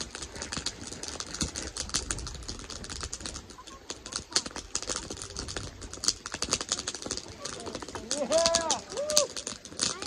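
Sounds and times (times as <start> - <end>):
campfire crackling: 0.0 - 10.0
wind rumble on microphone: 0.0 - 10.0.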